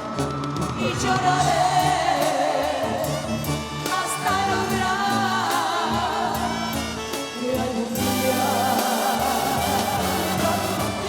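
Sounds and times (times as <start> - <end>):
brass band accompaniment: 0.0 - 11.0
woman singing: 0.8 - 11.0.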